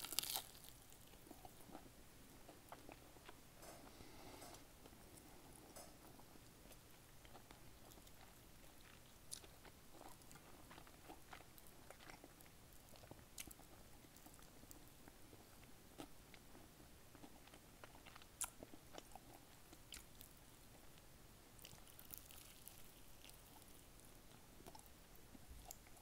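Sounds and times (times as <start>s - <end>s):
chewing crispy fried chicken: 0.0s - 4.0s, 4.8s - 26.0s.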